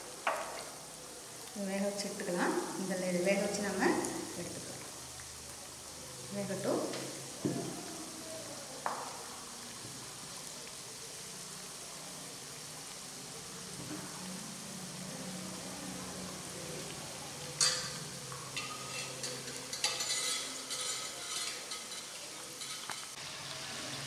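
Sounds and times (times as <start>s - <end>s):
peanuts sizzling in hot oil: 0.0s - 24.0s.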